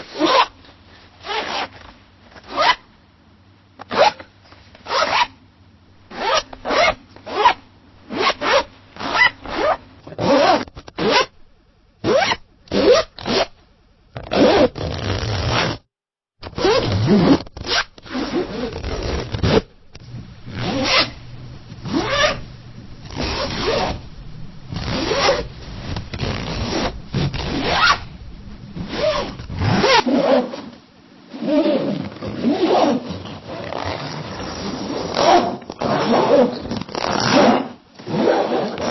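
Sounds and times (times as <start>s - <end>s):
zipper zipping up and down: 0.0s - 0.6s, 1.2s - 2.8s, 3.8s - 5.4s, 6.1s - 11.3s, 12.0s - 13.6s, 14.2s - 21.2s, 21.8s - 22.4s, 23.0s - 24.0s, 24.7s - 28.1s, 28.8s - 38.9s.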